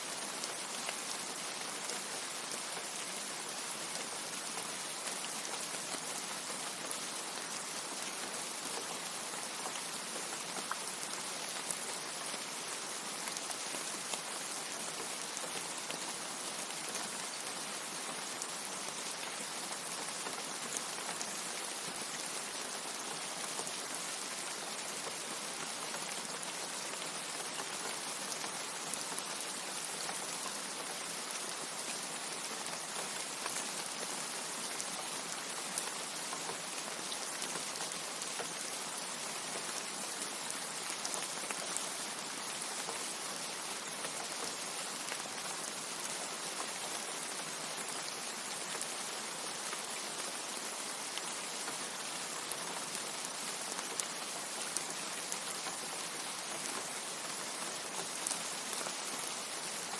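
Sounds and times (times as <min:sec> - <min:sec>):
steady rain with drop ticks: 0:00.0 - 0:59.9.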